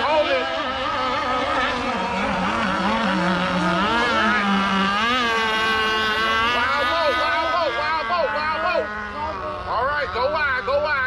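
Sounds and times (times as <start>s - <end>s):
model boat engines revving: 0.0s - 11.0s.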